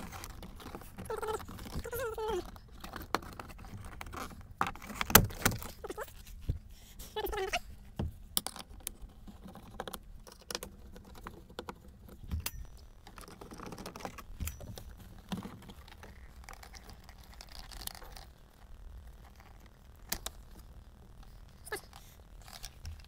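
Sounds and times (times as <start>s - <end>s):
plastic scraping: 0.0s - 23.0s.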